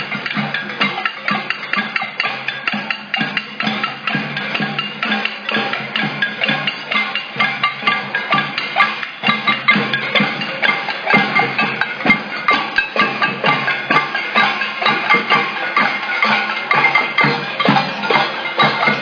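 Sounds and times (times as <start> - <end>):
drums and percussion beating: 0.0 - 19.0.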